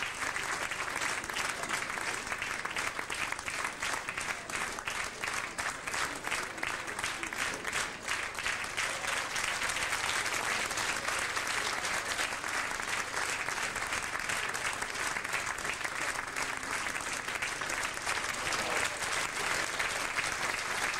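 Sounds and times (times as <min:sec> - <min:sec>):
audience applauding: 0:00.0 - 0:20.9.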